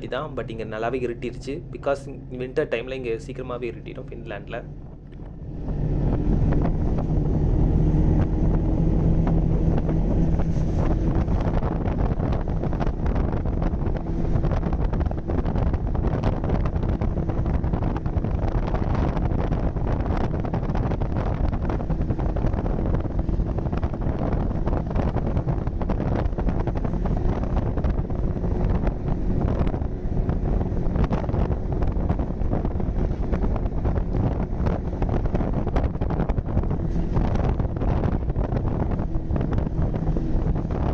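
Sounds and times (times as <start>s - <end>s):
snowmobile engine running: 0.0s - 40.9s
wind buffeting microphone: 0.0s - 40.9s.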